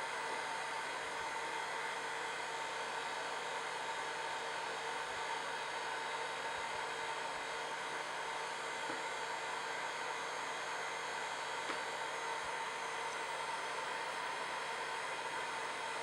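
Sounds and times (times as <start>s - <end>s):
hot-air blower running: 0.0s - 16.0s.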